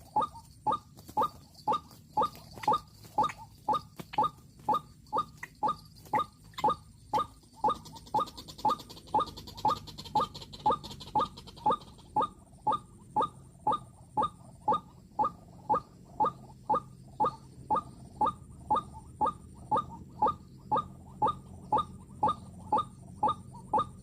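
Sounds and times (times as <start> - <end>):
waterhen short calls: 0.0 - 24.0.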